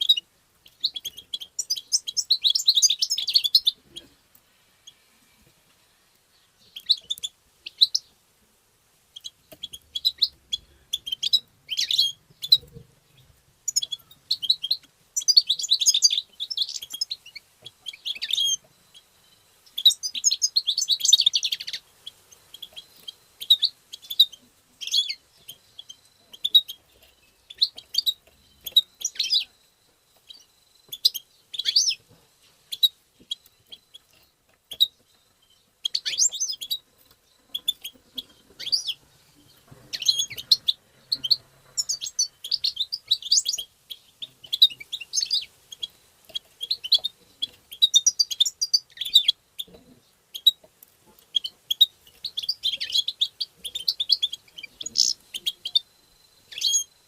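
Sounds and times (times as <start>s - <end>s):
bird singing and twittering: 0.0s - 4.2s, 6.3s - 8.2s, 9.2s - 57.0s.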